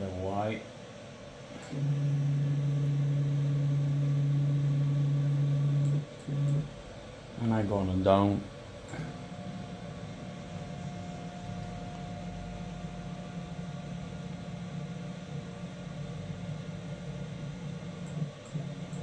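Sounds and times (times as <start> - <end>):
stepper motors humming: 1.6 - 19.0.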